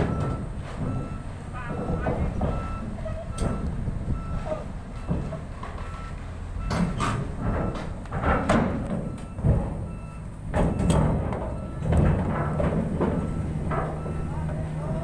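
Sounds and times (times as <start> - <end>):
metal tracks clanking on steel: 0.0 - 6.0, 6.6 - 15.0
travel alarm beeping: 0.0 - 7.9, 8.9 - 11.9, 13.1 - 15.0
diesel engine running under load: 0.0 - 15.0.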